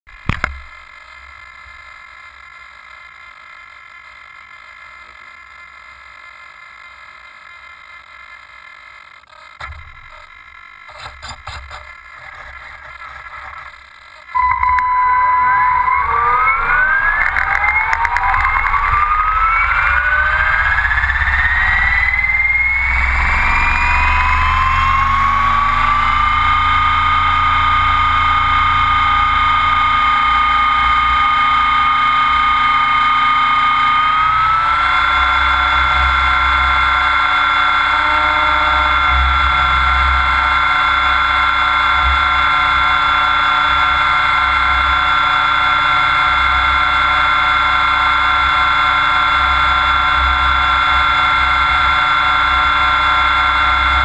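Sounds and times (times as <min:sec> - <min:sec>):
rc helicopter motor and rotor whining: 0:09.6 - 0:54.0.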